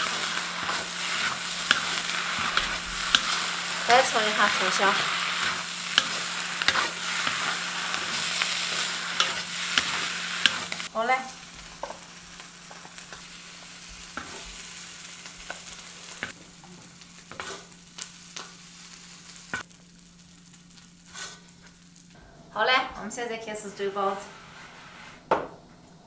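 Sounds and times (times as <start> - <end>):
food sizzling in a wok: 0.0 - 22.2, 23.2 - 25.9.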